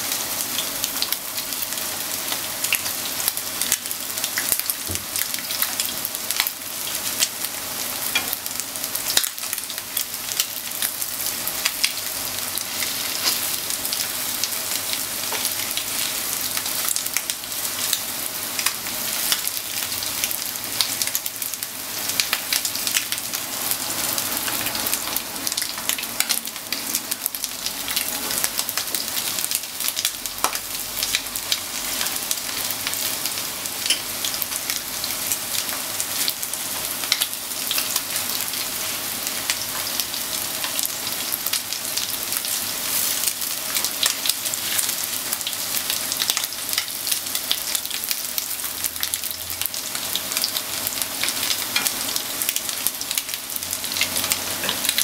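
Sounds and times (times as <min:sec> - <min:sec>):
chicken frying in oil: 0:00.0 - 0:55.0.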